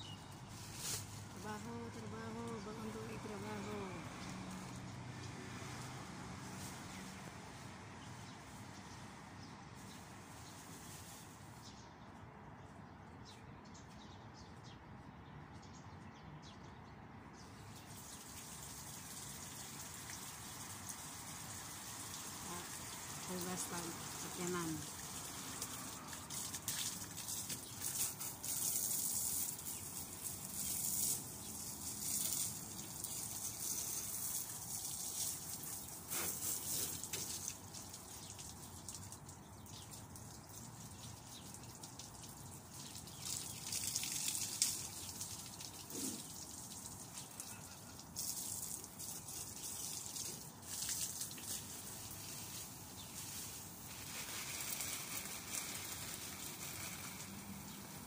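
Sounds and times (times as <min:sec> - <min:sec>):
hose water spraying on a car: 0:00.0 - 0:11.9, 0:17.4 - 0:58.0.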